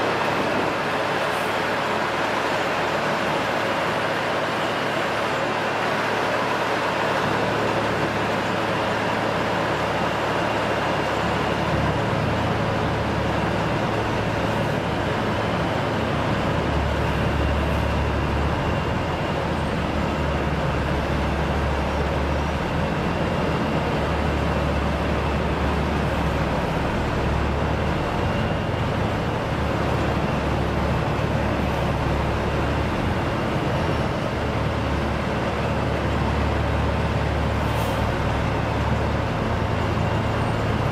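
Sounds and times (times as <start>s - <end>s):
road milling machine running: 0.0s - 40.9s.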